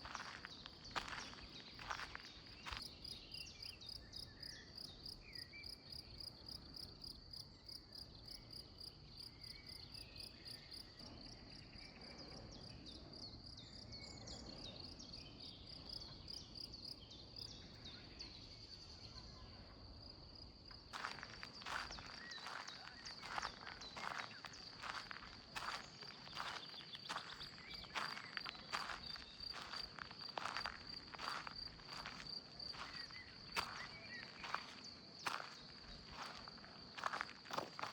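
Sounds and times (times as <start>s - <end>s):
cricket chirping: 0.0s - 37.9s.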